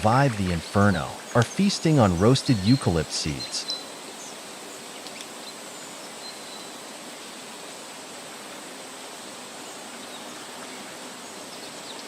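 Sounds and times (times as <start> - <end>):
even outdoor hiss: 0.0 - 12.0.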